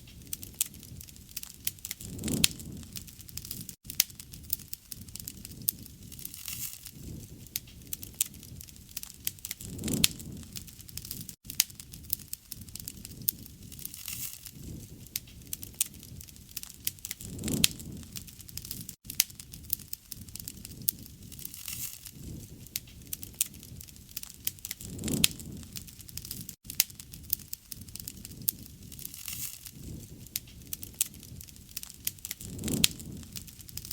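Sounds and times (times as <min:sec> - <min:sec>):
rush of flames: 0:00.0 - 0:33.9
wood fire crackling and popping: 0:00.0 - 0:33.9.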